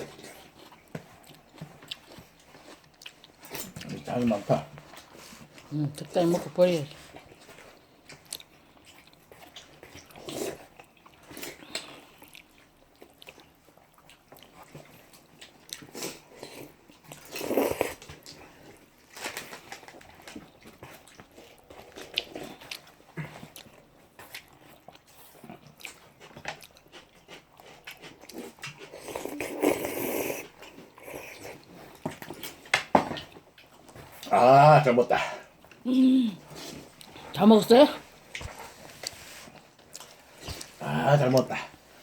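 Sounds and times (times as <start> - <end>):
chewing noodles: 0.0 - 42.0.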